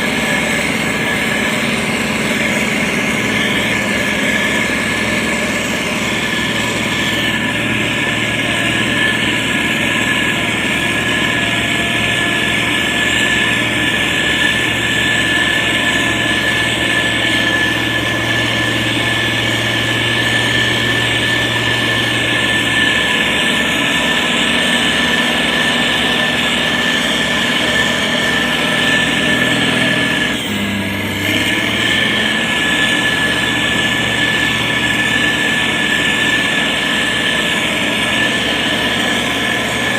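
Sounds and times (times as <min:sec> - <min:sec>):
heavy machinery diesel engine: 0:00.0 - 0:39.9
high whine: 0:00.0 - 0:39.9.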